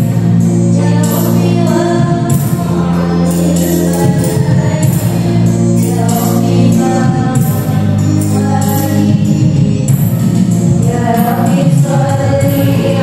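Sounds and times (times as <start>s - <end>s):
electronic keyboard: 0.0s - 13.0s
percussion jingles: 0.0s - 13.0s
voices singing together: 0.0s - 13.0s.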